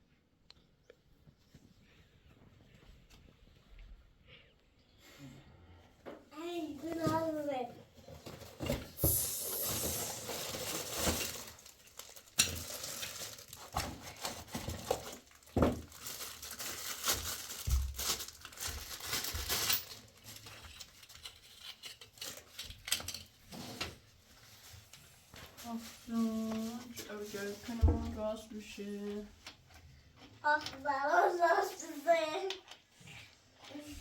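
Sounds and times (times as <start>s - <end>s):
rustling of handled things: 0.6s - 5.3s, 6.0s - 34.0s.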